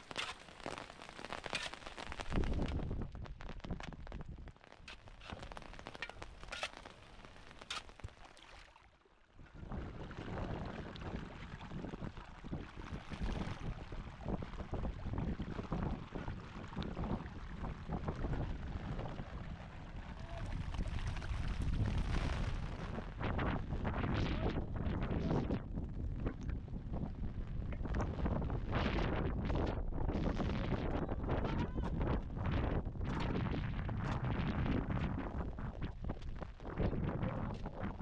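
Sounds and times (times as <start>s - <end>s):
crackles: 0.0s - 38.0s
wind buffeting microphone: 1.7s - 7.8s, 9.4s - 38.0s.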